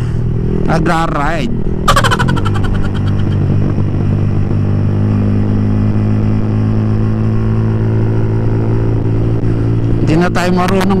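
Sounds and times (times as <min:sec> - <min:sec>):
motorcycle engine riding: 0:00.0 - 0:11.0.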